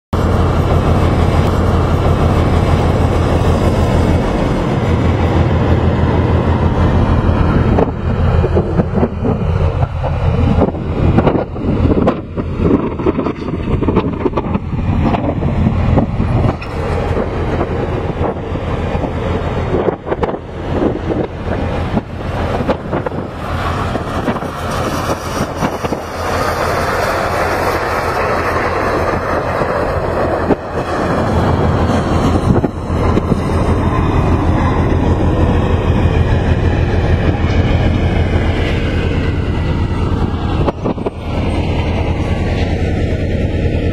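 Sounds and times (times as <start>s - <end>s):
crane machinery rumbling: 0.2s - 43.9s.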